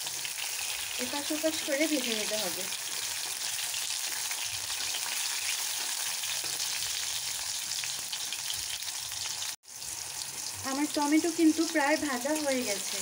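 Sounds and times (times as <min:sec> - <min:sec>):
tomato slices sizzling in hot oil: 0:00.0 - 0:13.0.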